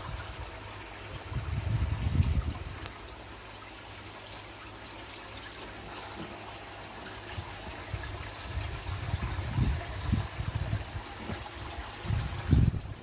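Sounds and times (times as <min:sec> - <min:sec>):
pond water trickling: 0:00.0 - 0:13.0.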